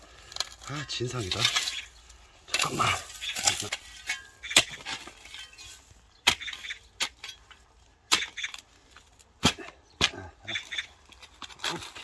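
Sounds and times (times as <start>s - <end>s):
shovel scraping dirt and gravel: 0.0s - 12.0s.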